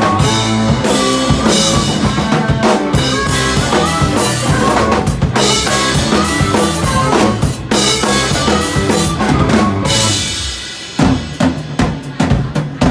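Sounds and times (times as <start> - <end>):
bass drum and snare: 0.0 - 12.9
live rock band playing: 0.0 - 12.9.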